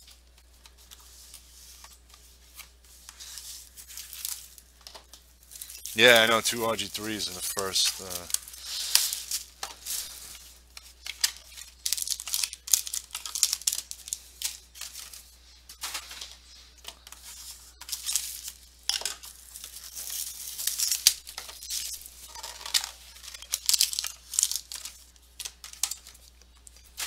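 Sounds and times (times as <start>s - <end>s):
card wrappers tearing and crinkling: 0.7s - 27.0s.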